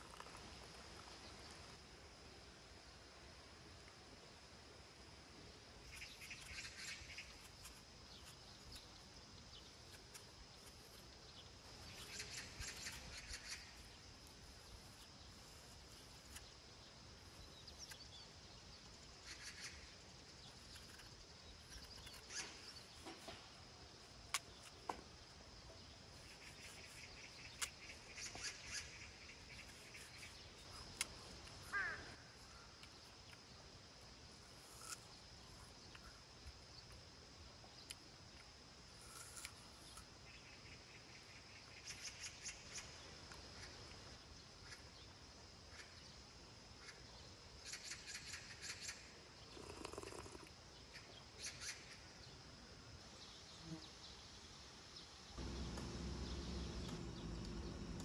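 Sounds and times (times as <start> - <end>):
faint chirping: 5.8 - 58.0.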